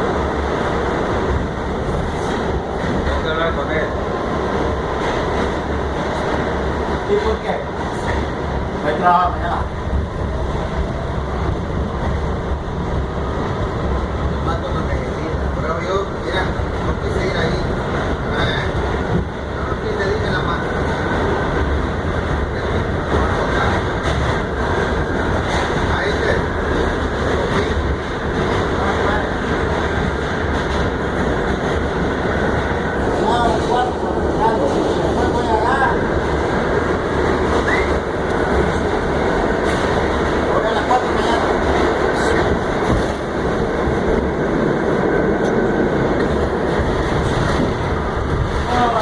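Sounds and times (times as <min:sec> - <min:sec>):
rail and wheel noise: 0:00.0 - 0:49.0
subway car rumble: 0:00.0 - 0:49.0.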